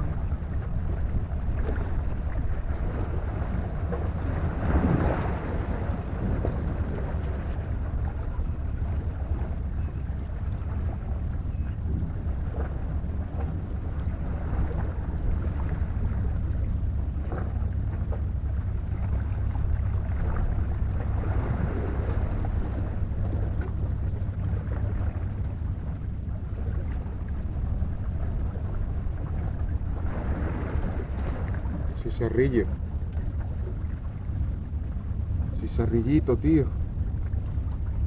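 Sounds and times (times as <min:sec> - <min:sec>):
wind on microphone: 0:00.0 - 0:35.6
sea waves washing: 0:00.0 - 0:38.0.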